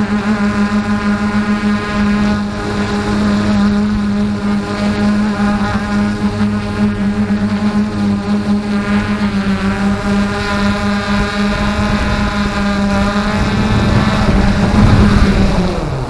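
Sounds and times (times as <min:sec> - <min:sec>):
motor droning: 0:00.0 - 0:16.0
wind on microphone: 0:00.0 - 0:16.0.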